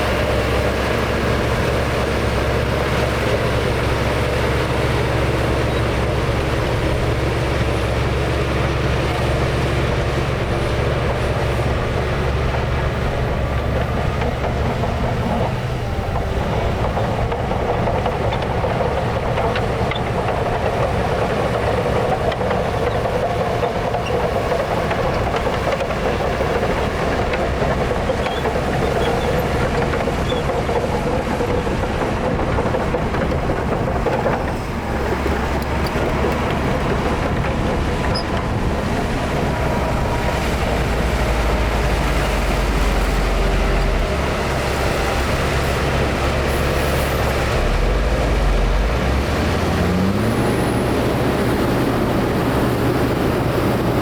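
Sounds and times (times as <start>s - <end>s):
diesel earthmoving machinery engine: 0.0s - 54.0s
rushing grinding noise: 0.0s - 54.0s.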